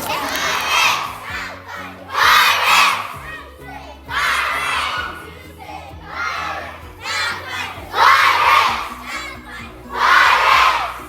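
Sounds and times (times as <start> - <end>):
background music: 0.0 - 11.0
children shouting together: 0.0 - 11.0.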